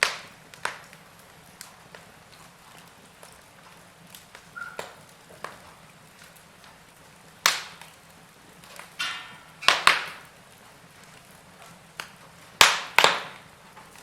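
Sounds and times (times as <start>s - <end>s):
sharp fire pops: 0.0s - 14.0s
wood fire crackling: 0.0s - 14.0s.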